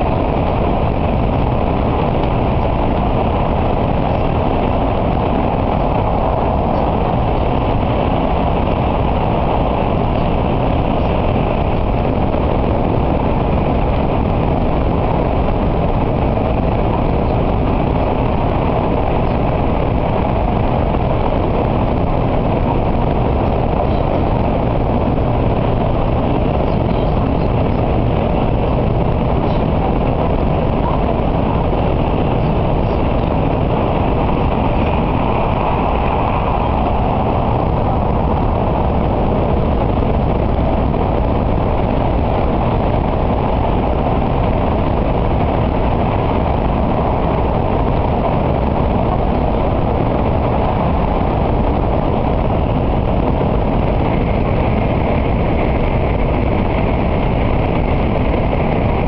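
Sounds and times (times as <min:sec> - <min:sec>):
train rushing rumble in tunnel: 0:00.0 - 0:59.0.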